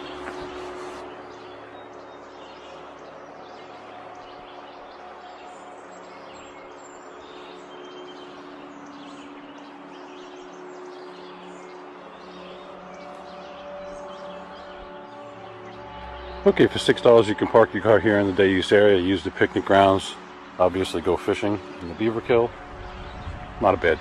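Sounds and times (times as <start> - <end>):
birds chirping: 0.0 - 24.0
low hum: 0.0 - 24.0.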